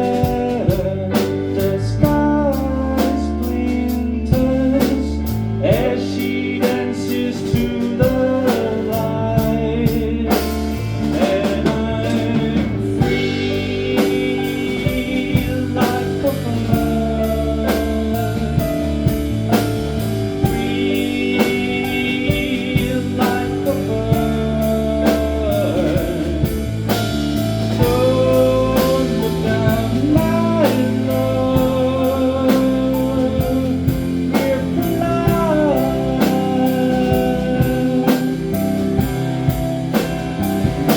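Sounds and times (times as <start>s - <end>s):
bass guitar: 0.0s - 40.9s
drum kit beat: 0.0s - 40.9s
electric guitar melody: 0.0s - 40.9s
person singing: 0.0s - 40.9s.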